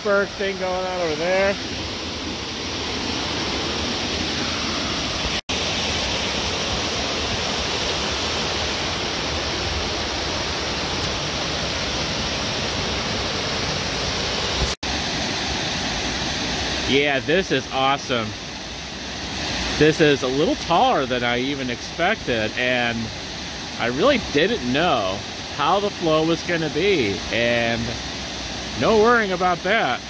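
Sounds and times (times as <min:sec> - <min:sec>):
waterfall pouring over rocks: 0:00.0 - 0:30.0.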